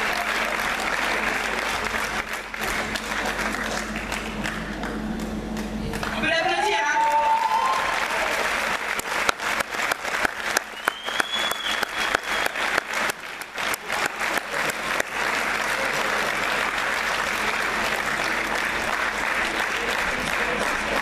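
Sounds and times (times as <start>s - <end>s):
sharp close handclaps: 0.0s - 6.2s, 7.1s - 21.0s
crowd applauding: 0.0s - 21.0s.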